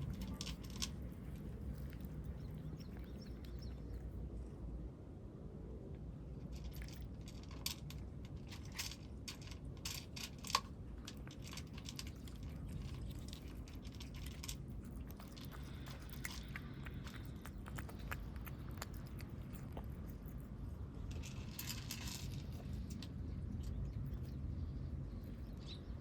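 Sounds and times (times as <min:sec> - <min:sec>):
cats crunching food: 0:00.0 - 0:04.7, 0:06.4 - 0:24.4.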